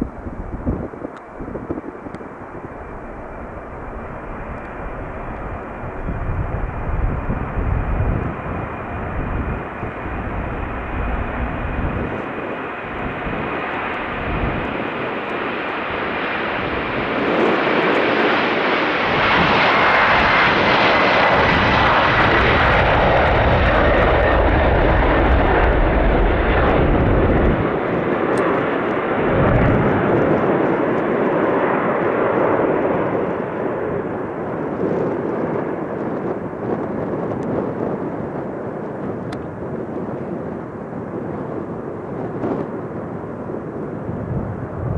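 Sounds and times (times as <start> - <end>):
jet engine whine falling in pitch: 0.0 - 44.9
jet engines at takeoff power: 0.0 - 44.9.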